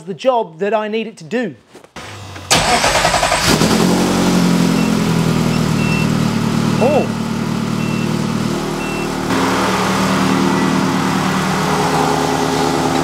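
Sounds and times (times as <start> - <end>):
car engine idling: 2.0 - 13.0.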